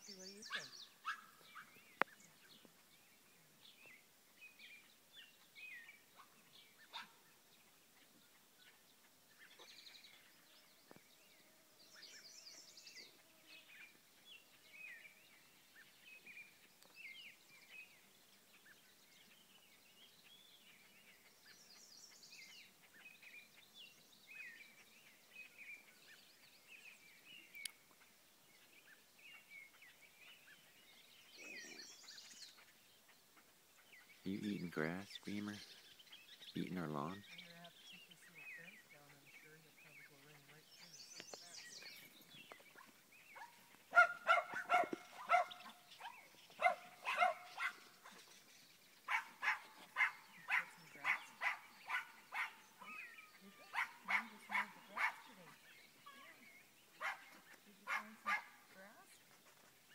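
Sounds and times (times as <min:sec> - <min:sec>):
faint birdsong: 0:00.0 - 0:59.9.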